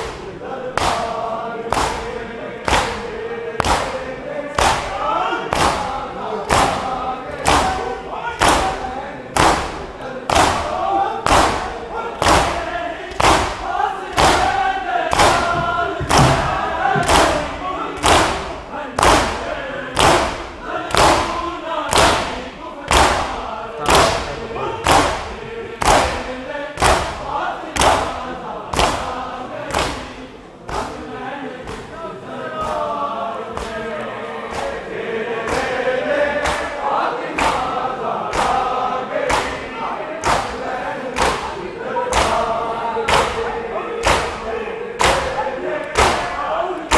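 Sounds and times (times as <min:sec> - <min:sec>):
chest-beating slaps in unison: 0:00.0 - 0:32.0, 0:32.6 - 0:32.9, 0:33.5 - 0:46.9
men chanting: 0:00.0 - 0:46.9.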